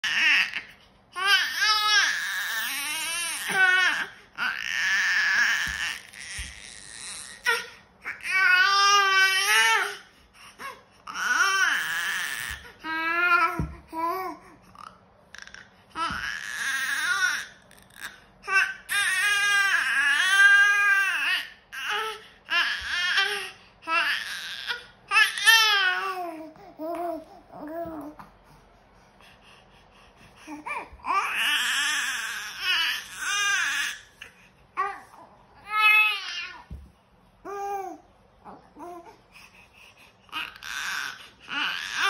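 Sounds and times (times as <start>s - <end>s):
baby crying: 0.0s - 10.0s, 10.6s - 14.5s, 15.4s - 28.2s, 30.5s - 34.2s, 34.8s - 36.7s, 40.3s - 42.0s.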